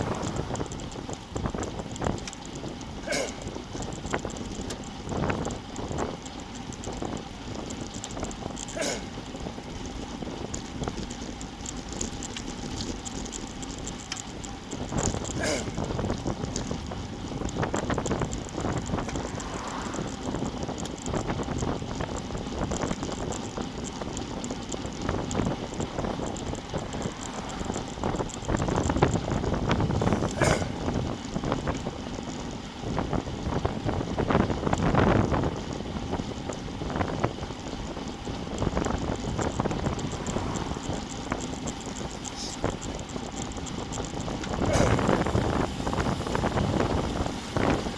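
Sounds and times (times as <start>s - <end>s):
road and tyre noise: 0.0s - 47.9s
wind buffeting microphone: 0.0s - 47.9s.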